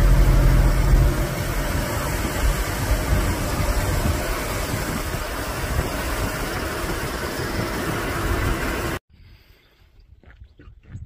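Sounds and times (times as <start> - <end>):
vehicle engine and road noise: 0.0 - 9.0
wind rumble on microphone: 0.0 - 9.0, 9.9 - 11.0.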